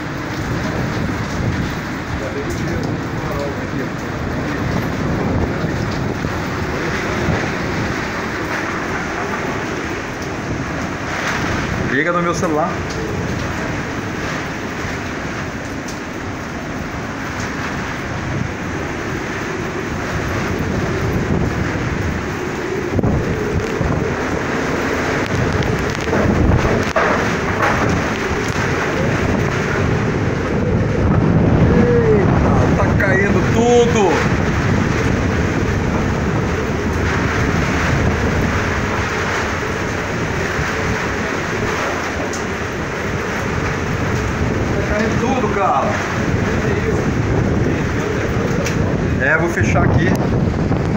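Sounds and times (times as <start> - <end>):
rain: 0.0 - 50.9
storm wind blowing: 0.0 - 50.9.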